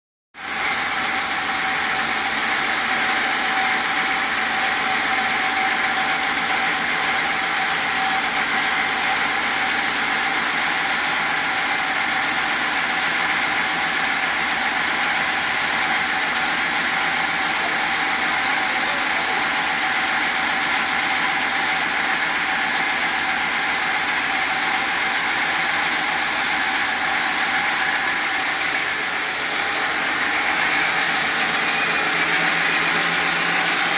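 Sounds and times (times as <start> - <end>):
foam splitting machine running: 0.4 - 33.9.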